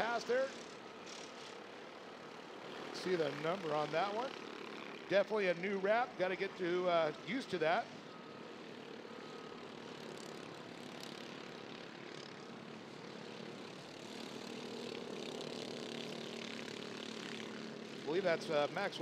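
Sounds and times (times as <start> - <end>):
kart engines buzzing: 0.0 - 19.0.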